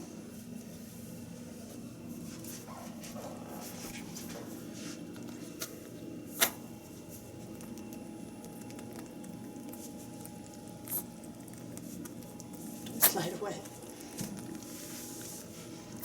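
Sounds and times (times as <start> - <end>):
rabbit licking liquid: 0.4 - 16.0.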